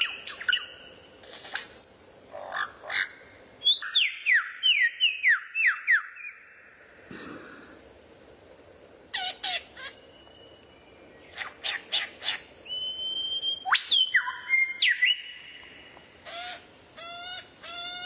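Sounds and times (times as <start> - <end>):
songbird calling: 0.0 - 6.8, 9.1 - 18.0.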